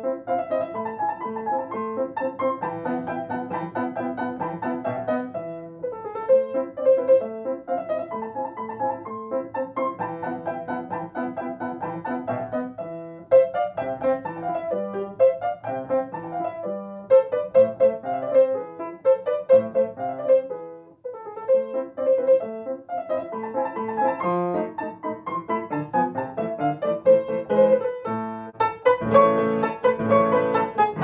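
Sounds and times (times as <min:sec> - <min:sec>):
solo piano: 0:00.0 - 0:31.0.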